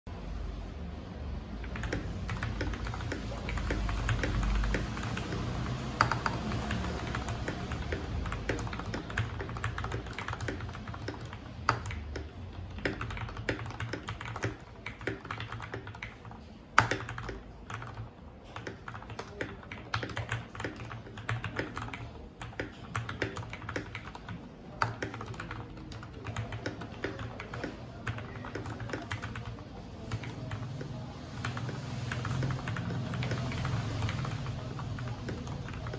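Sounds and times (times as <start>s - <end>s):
typing on mechanical keyboard: 1.5s - 35.9s.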